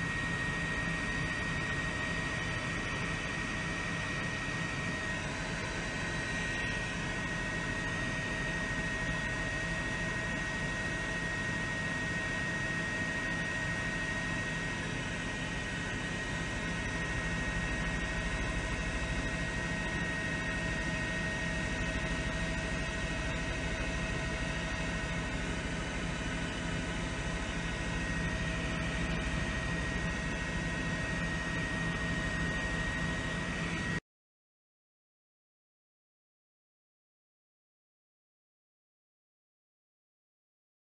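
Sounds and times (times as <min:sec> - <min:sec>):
helicopter engine and rotor: 0:00.0 - 0:34.0
high turbine whine: 0:00.0 - 0:34.0.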